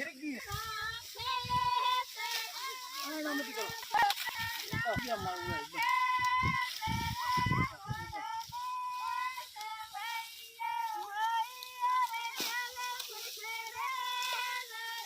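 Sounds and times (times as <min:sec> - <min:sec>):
women singing unaccompanied: 0:00.5 - 0:15.0.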